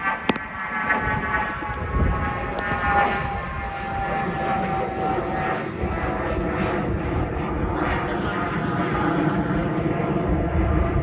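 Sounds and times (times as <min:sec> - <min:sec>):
jet engines passing with whine: 0:00.0 - 0:11.0.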